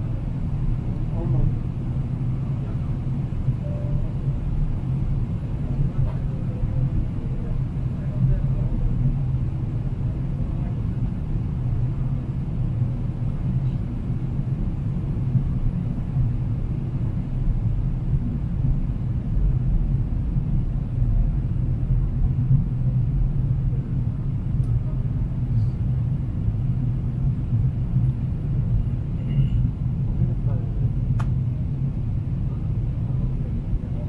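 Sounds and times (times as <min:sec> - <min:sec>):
airplane cabin engine and airflow rumble: 0:00.0 - 0:34.0.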